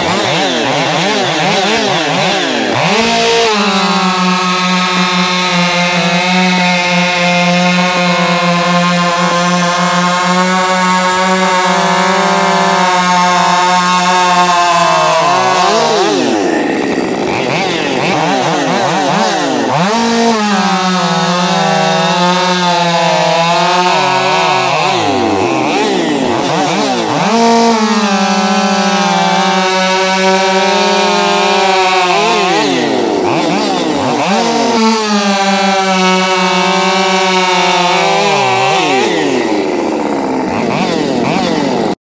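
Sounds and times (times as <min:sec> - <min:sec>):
chainsaws cutting logs: 0:00.0 - 0:42.0.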